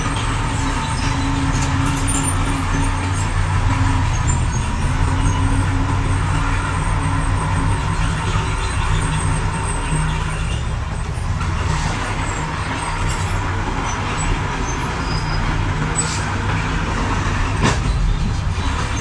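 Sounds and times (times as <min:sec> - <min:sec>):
diesel machinery engine rumble: 0:00.0 - 0:19.0.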